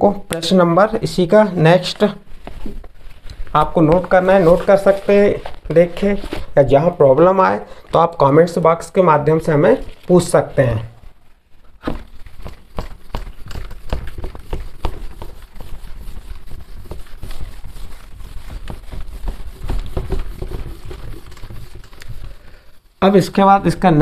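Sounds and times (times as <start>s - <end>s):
eraser scrubbing a whiteboard: 3.5s - 10.8s, 11.9s - 24.0s.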